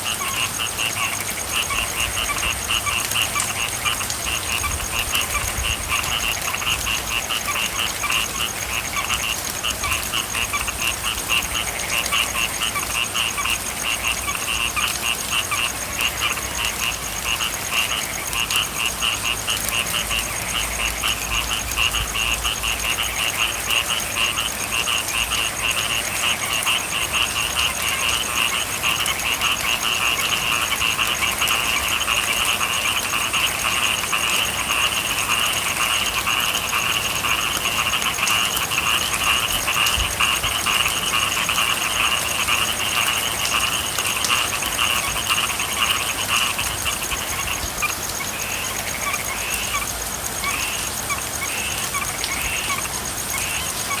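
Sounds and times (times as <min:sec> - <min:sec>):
frogs calling: 0:00.0 - 0:54.0
rain hiss: 0:00.0 - 0:54.0.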